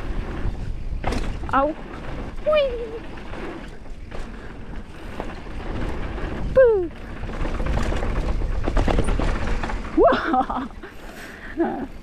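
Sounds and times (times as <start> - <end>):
bike chain and frame clattering: 0.0 - 12.0
tyres and wind rumbling: 0.0 - 12.0.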